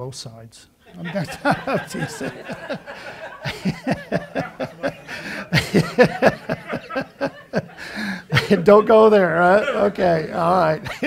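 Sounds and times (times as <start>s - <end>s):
man laughing: 0.9s - 11.0s.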